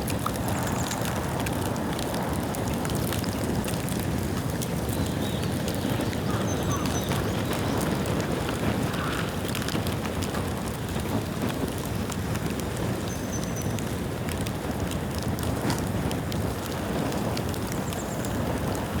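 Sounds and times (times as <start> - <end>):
sharp crackles of burning bamboo: 0.0 - 19.0.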